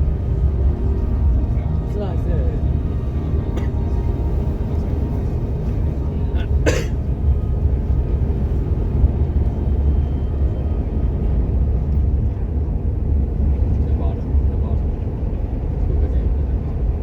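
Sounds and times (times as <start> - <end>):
bus driving rumble: 0.0 - 17.0.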